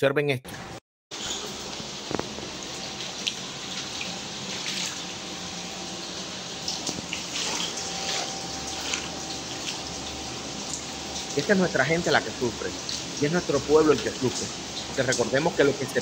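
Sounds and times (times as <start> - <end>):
running water rushing: 1.2 - 16.0
water drips and splashes: 1.2 - 16.0.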